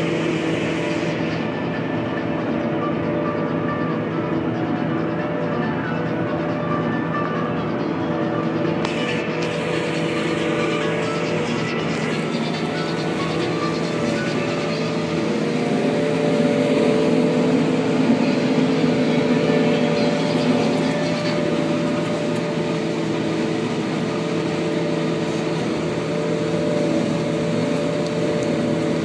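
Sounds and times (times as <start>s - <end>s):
harvester engine running: 0.0s - 29.0s.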